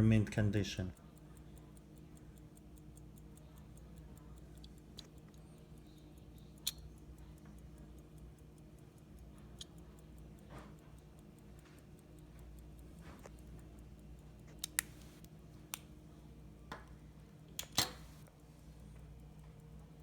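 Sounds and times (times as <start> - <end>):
pocket watch ticking: 0.0 - 20.0.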